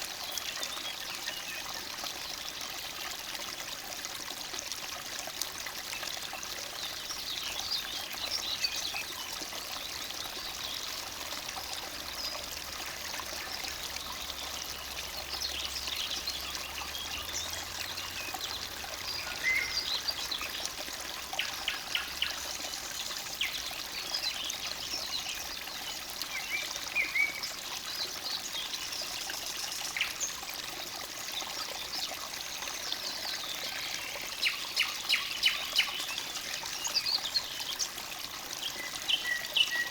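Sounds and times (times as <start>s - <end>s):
stream babbling: 0.0s - 39.9s
songbirds chirping: 6.0s - 39.9s.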